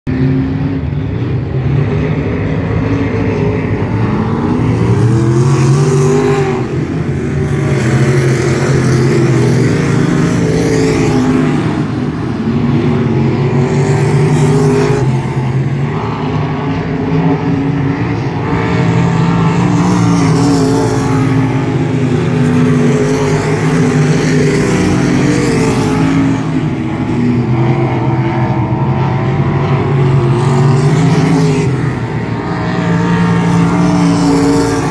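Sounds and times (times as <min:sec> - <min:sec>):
race car engine running hard: 0:00.1 - 0:34.9.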